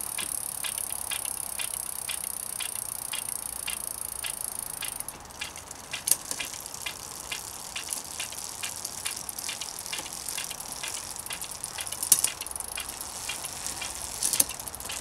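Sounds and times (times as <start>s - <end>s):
bicycle freewheel ticking: 0.0s - 15.0s
louder freewheel click: 0.0s - 15.0s.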